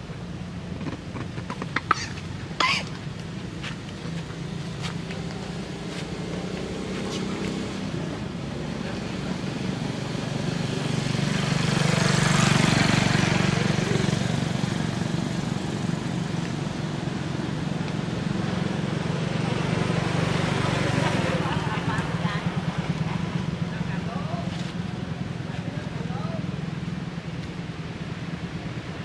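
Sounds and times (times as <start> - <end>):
motor vehicle passing: 0.0 - 29.0.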